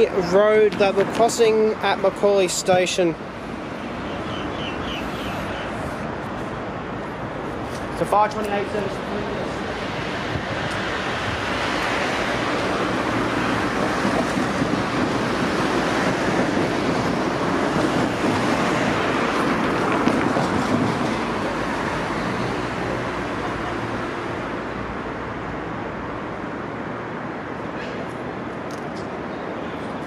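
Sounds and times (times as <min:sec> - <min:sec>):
electric train passing: 0:02.0 - 0:30.0.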